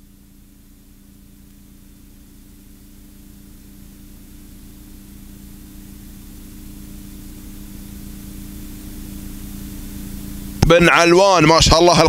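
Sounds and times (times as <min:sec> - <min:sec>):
microphone hiss and hum: 0:00.0 - 0:12.0.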